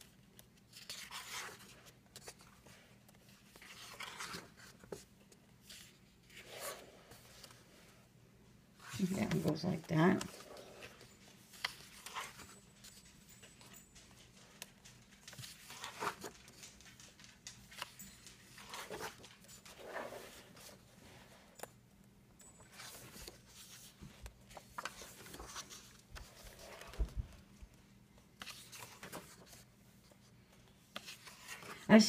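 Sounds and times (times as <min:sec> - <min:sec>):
paper pages turning: 0:00.0 - 0:08.0, 0:08.8 - 0:21.8, 0:22.4 - 0:27.5, 0:28.2 - 0:32.0.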